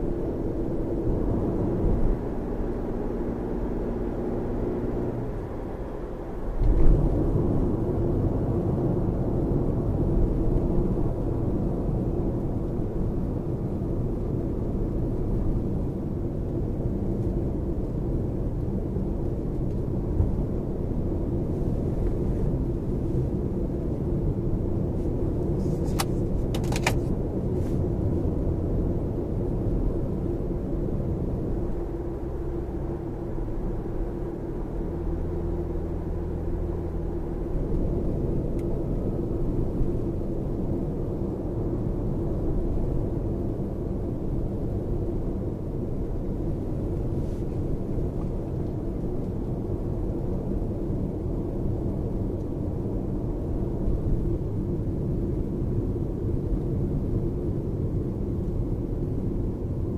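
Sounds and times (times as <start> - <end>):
road and tyre rumble in car cabin: 0.0 - 59.9.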